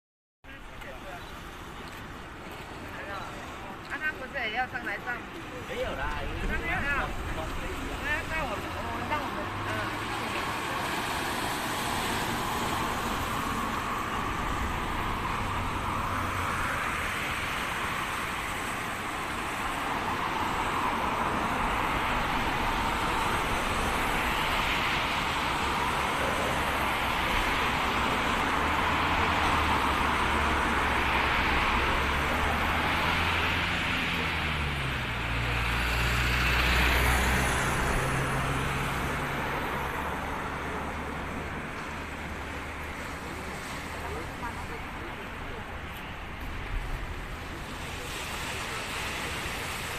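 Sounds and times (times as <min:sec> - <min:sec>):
road traffic: 0:00.4 - 0:49.9
waves breaking: 0:00.9 - 0:49.9.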